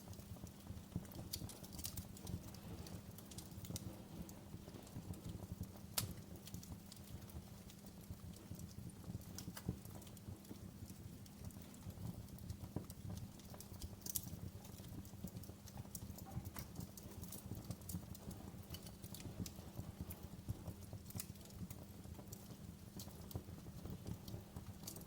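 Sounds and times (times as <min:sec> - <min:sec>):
fire pops and snaps: 0:00.0 - 0:25.0
wood fire crackling: 0:00.0 - 0:25.0.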